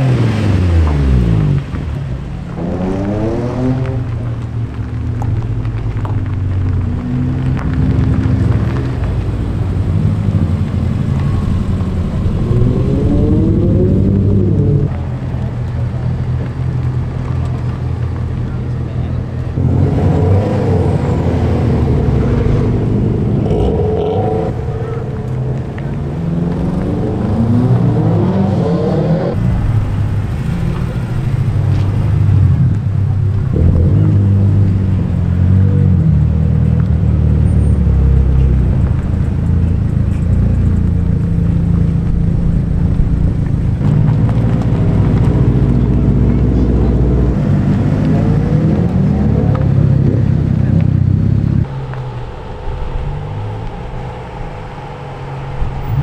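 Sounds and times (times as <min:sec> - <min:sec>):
car engines revving: 0:00.0 - 0:56.0
engine accelerating: 0:00.0 - 0:56.0.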